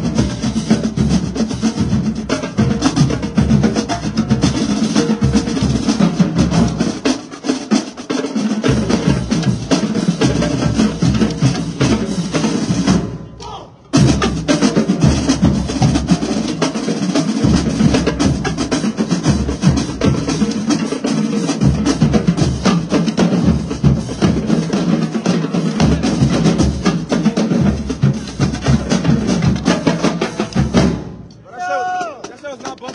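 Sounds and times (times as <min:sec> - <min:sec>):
marching drumline playing: 0:00.0 - 0:32.9.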